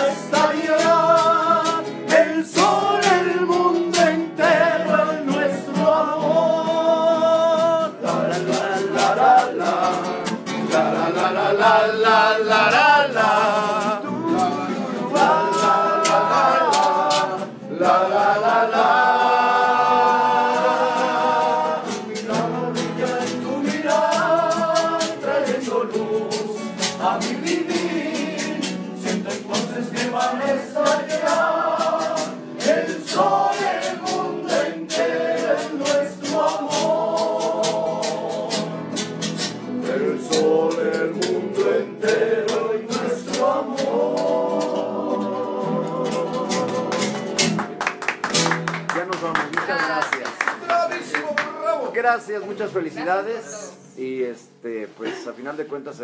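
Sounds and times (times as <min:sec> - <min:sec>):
men singing in harmony: 0:00.0 - 0:47.6
strummed acoustic guitars: 0:00.0 - 0:55.3.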